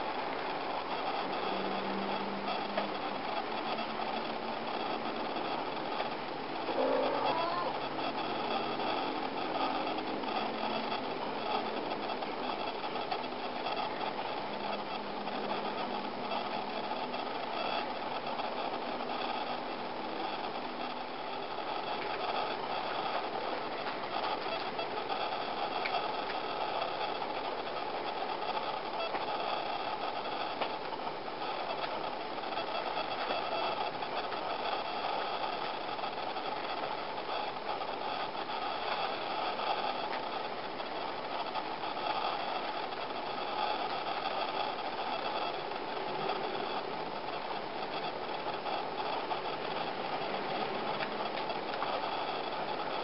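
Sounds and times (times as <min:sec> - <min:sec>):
faint high whining tones: 0:00.0 - 0:53.0
mechanical hum and hiss: 0:00.0 - 0:53.0.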